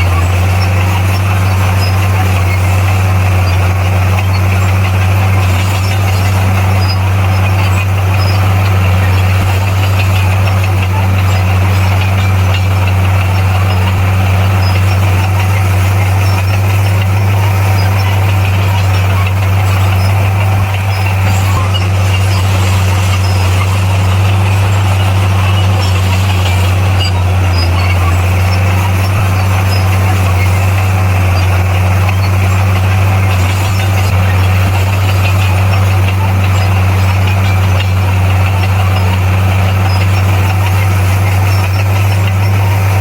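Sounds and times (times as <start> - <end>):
bulldozer diesel engine humming: 0.0 - 43.0.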